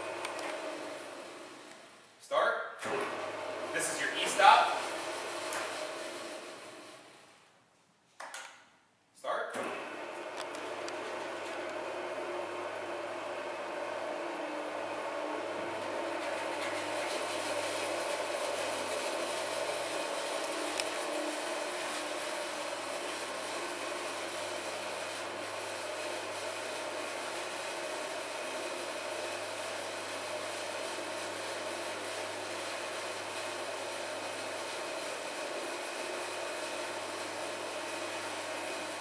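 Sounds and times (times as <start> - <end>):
mixer motor humming: 0.0 - 2.1, 2.8 - 7.3, 9.6 - 39.0.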